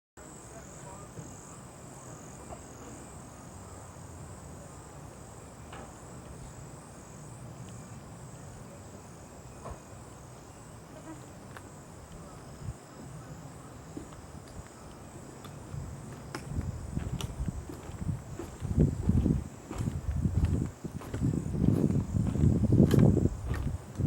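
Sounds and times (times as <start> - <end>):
insects buzzing: 0.2 - 24.0.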